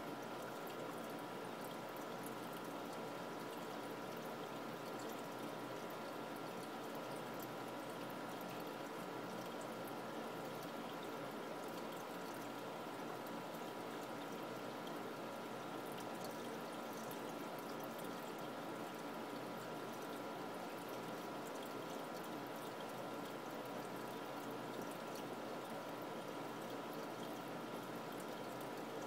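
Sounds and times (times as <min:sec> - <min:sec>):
faint steady tone: 0:00.0 - 0:29.0
water trickling and bubbling: 0:00.1 - 0:29.0.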